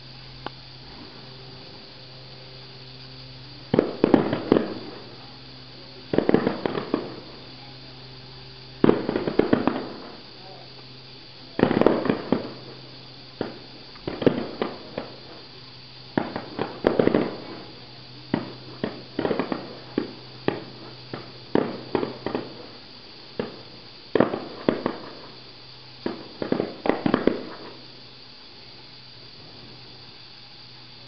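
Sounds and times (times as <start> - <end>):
fireworks bursting with echo: 0.0 - 31.0.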